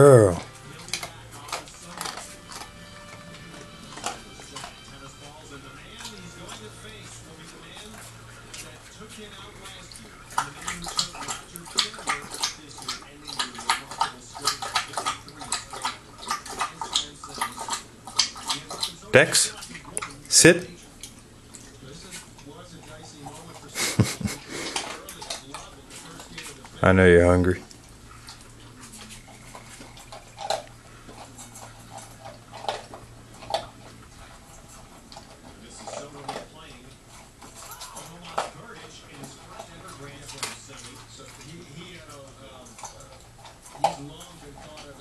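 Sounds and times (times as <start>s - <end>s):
puppy chewing wet food: 0.0s - 45.0s
dog eating from metal bowl: 0.2s - 45.0s.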